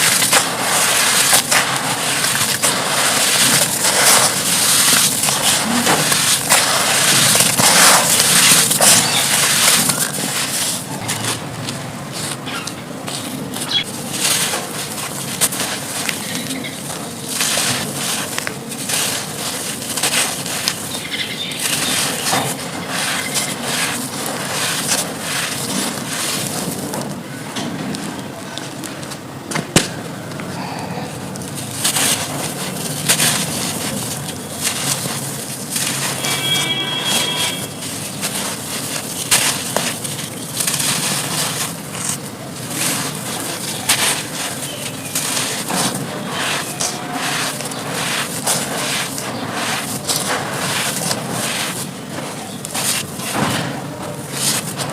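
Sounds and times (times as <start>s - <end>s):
brittle pieces crackling and crunching: 0.0s - 29.2s, 31.3s - 54.9s.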